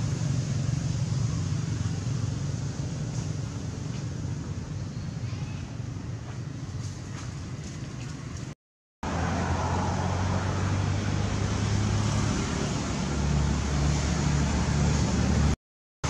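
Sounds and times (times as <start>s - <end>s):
engine humming: 0.0s - 15.6s.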